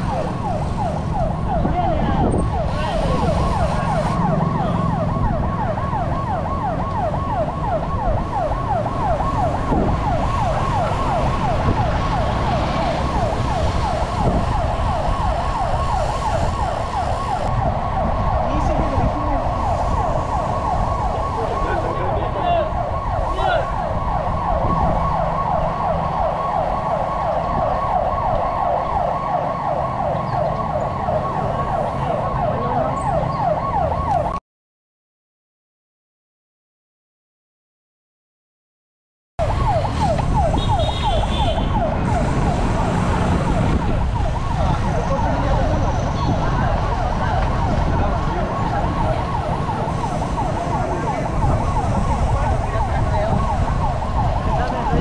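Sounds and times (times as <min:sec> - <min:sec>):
electronic siren yelping: 0:00.0 - 0:34.4, 0:39.4 - 0:55.0
wind and road noise: 0:00.0 - 0:34.4, 0:39.4 - 0:55.0.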